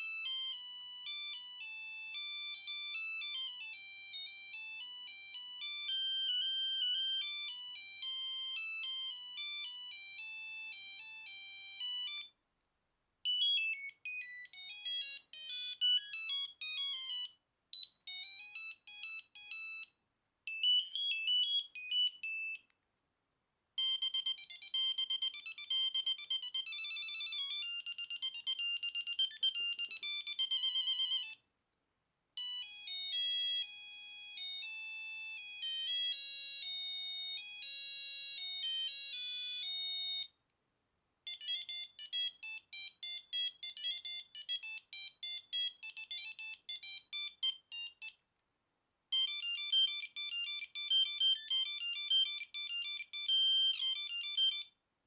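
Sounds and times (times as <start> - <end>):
phone ringtone beeping melodies: 0.0 - 12.4, 13.3 - 19.9, 20.5 - 22.7, 23.8 - 31.5, 32.4 - 40.4, 41.3 - 48.2, 49.1 - 54.8.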